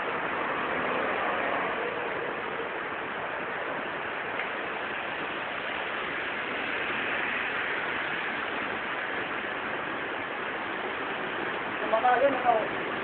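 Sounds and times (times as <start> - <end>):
heavy rain on street: 0.0 - 13.0
vehicle passing on wet road: 0.0 - 13.0.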